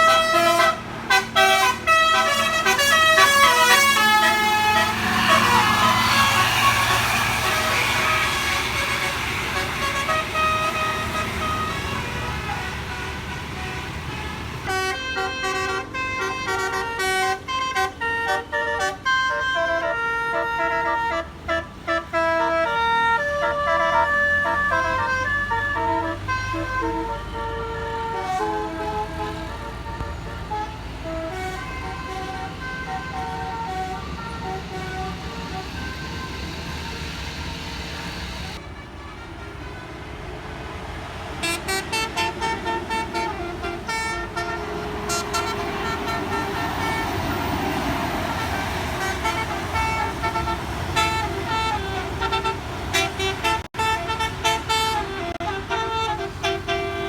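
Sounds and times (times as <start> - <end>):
musical bus air horn: 0.0 - 57.0.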